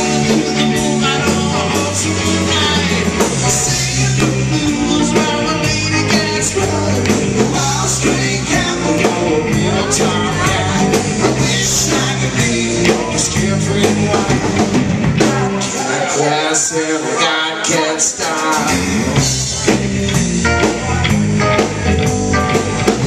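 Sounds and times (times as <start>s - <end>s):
electric guitars: 0.0s - 23.0s
live rock band playing: 0.0s - 23.0s.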